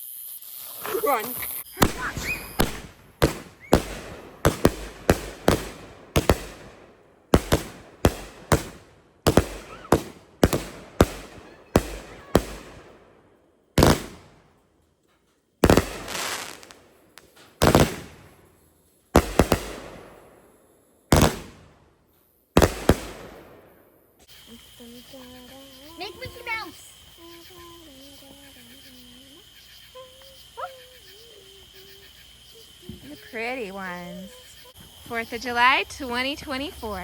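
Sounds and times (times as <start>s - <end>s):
fireworks bangs: 0.6s - 14.8s, 15.6s - 37.0s.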